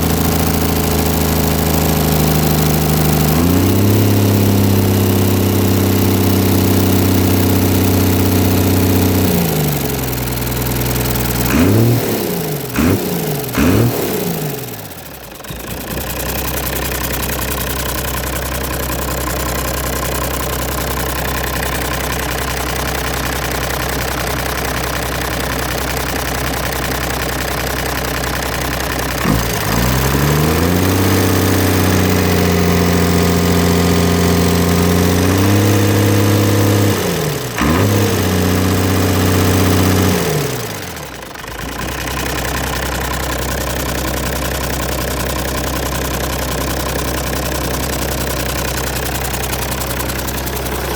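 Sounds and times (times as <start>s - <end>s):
diesel engine idling and revving: 0.0s - 50.9s.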